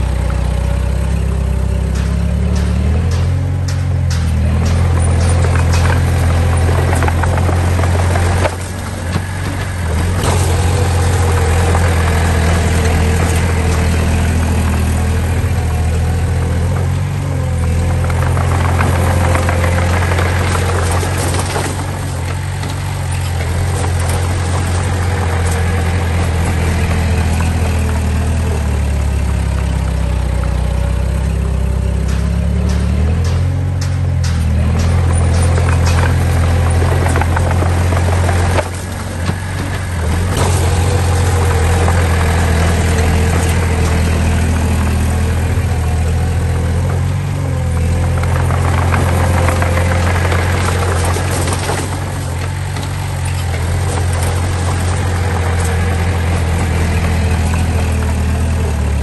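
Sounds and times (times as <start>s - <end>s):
heavy diesel engine running: 0.0s - 59.0s
metal clanks and knocks: 0.0s - 59.0s.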